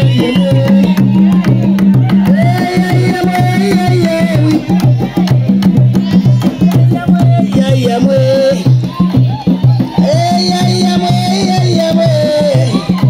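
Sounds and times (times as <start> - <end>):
loud dance music: 0.0 - 13.0.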